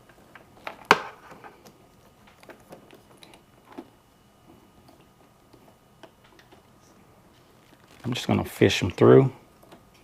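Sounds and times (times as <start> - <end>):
electrical wires clicking and rustling: 0.0 - 10.0.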